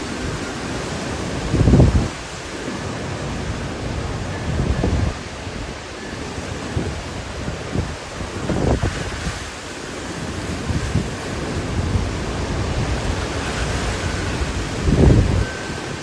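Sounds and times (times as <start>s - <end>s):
strong wind rushing: 0.0s - 16.0s
wind buffeting microphone: 0.0s - 16.0s.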